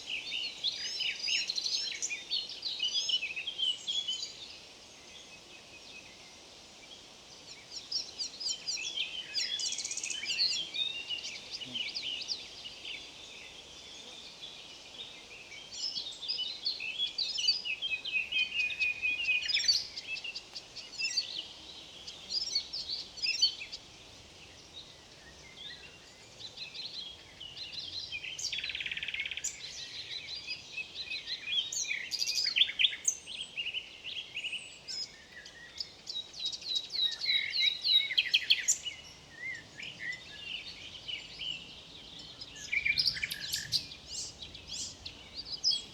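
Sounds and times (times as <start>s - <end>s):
faint steady background hiss: 0.0s - 45.9s
songbirds chirping and trilling: 0.0s - 45.9s.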